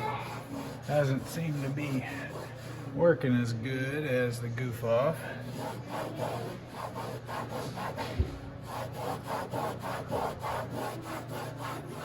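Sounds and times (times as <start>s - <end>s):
rhythmic hand scrubbing: 0.0s - 3.6s, 5.0s - 12.0s.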